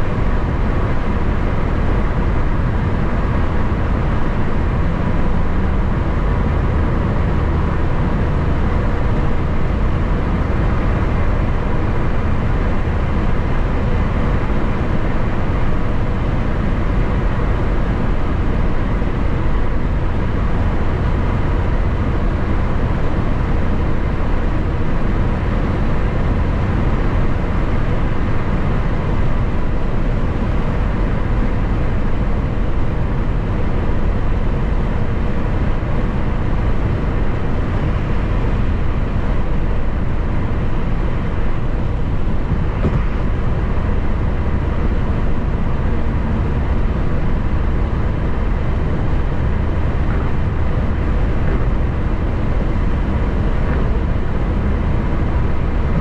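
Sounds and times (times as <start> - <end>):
vehicle road and wind noise: 0.0 - 56.0.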